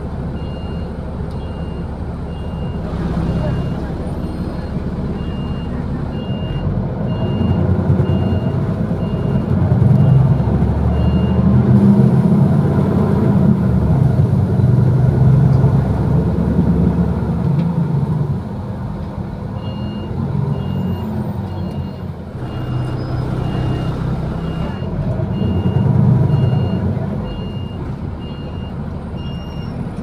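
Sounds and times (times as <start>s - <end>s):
bus engine rumble: 0.0s - 30.0s.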